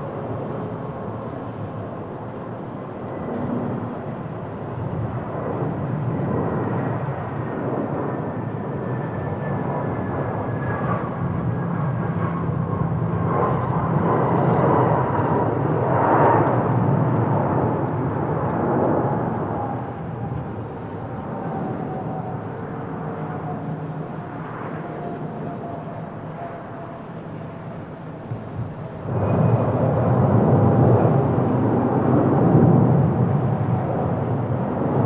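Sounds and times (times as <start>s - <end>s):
jet airliner passing: 0.0s - 35.0s.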